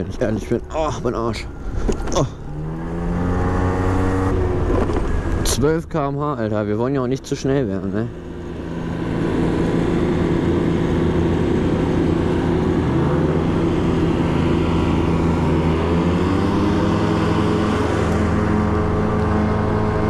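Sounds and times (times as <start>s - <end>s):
scooter two-stroke engine droning: 0.0s - 5.5s, 7.8s - 20.0s.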